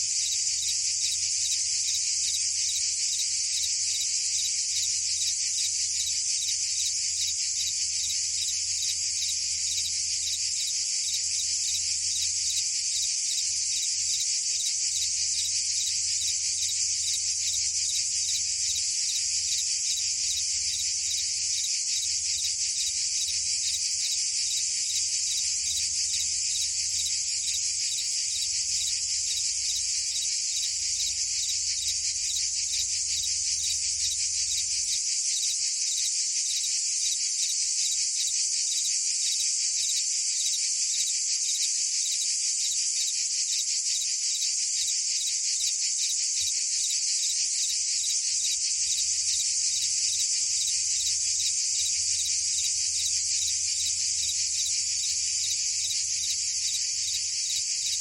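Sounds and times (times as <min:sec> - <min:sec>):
cicadas and crickets chirring: 0:00.0 - 0:58.0.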